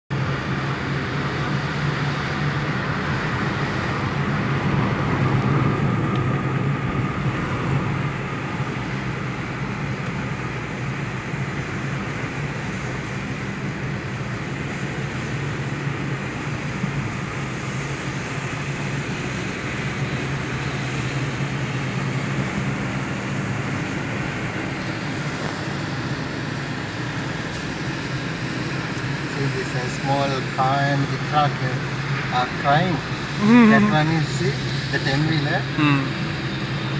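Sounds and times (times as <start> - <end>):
car engine drone: 0.1 - 36.9
tyre noise on wet road: 0.1 - 36.9.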